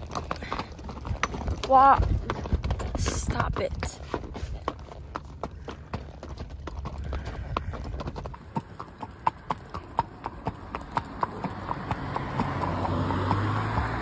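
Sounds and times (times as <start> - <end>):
horse hooves clopping: 0.0 - 14.0.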